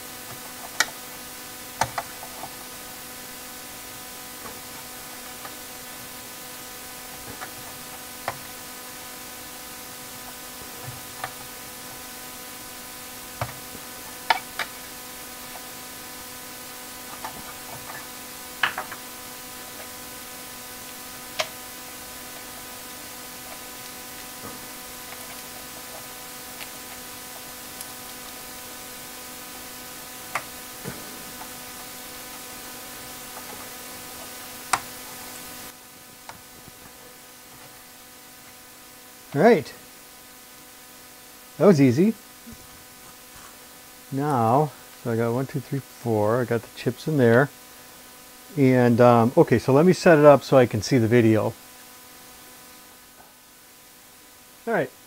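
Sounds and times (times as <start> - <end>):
electrical hum and hiss: 0.0 - 55.0.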